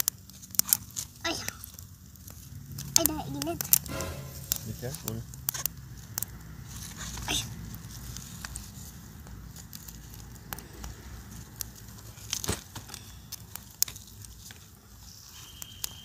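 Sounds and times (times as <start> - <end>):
wood embers crackling and popping: 0.0 - 16.0.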